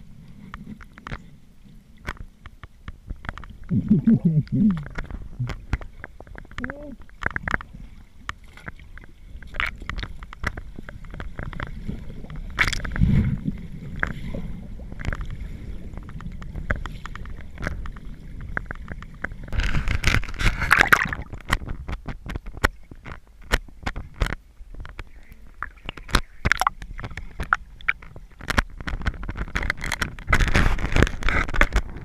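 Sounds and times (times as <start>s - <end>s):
small underwater clicks and knocks: 0.0s - 32.0s
underwater flowing water rumble: 0.0s - 32.0s.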